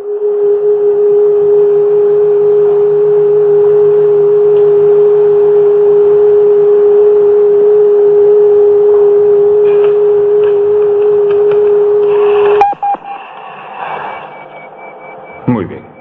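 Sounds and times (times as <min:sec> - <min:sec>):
steady electronic tone: 0:00.0 - 0:16.0.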